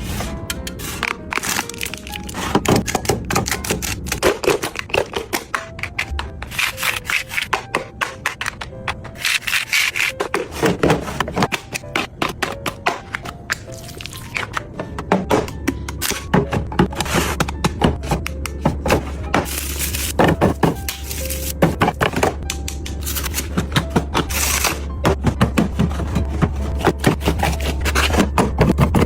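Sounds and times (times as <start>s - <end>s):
objects tapping clicking and rubbing: 0.0s - 29.0s.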